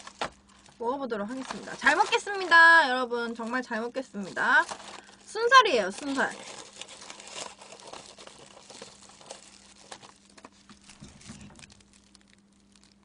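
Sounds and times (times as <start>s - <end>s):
plastic glove crinkling: 0.0s - 13.0s.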